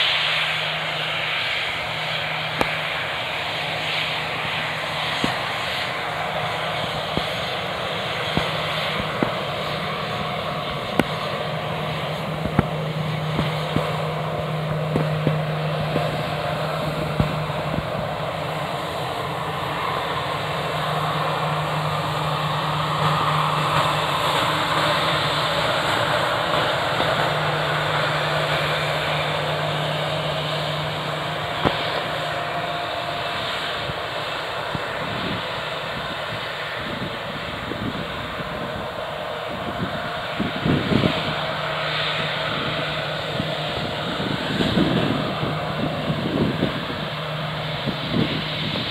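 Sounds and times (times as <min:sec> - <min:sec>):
jet engines at taxi power: 0:00.0 - 0:48.9.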